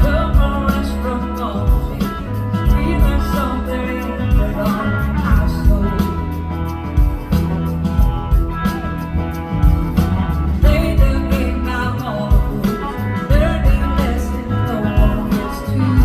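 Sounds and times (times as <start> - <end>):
bending lead guitar line: 0.0 - 16.0
live blues-rock band: 0.0 - 16.0.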